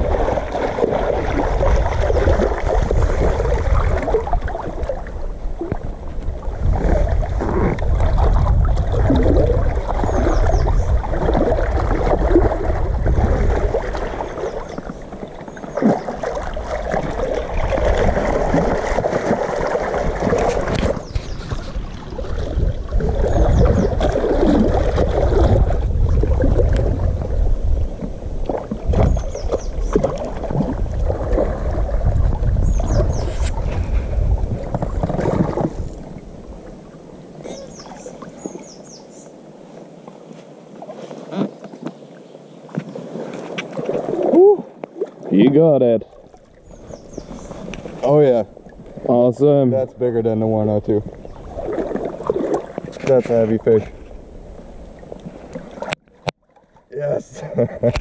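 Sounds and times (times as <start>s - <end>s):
water sloshing against boat: 0.0s - 58.0s.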